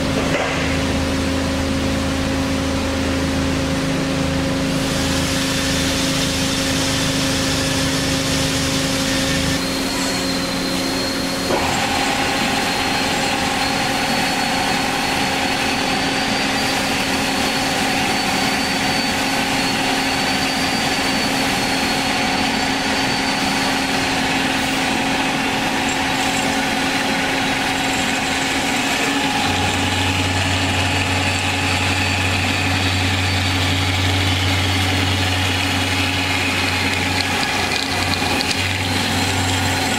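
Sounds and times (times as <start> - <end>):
band saw machine hum: 0.0 - 39.9.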